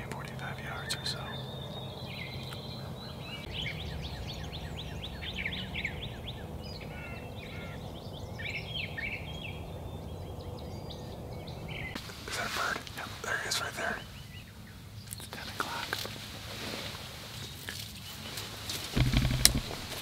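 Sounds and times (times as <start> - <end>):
low background rumble: 0.0 - 15.0, 19.0 - 20.0
songbirds chirping: 0.0 - 20.0.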